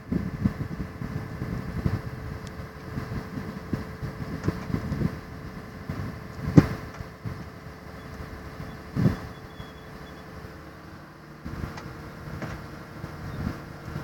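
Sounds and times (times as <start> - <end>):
wind thumps on microphone: 0.0 - 10.0, 11.5 - 14.0
combine harvester humming and whining: 0.0 - 14.0.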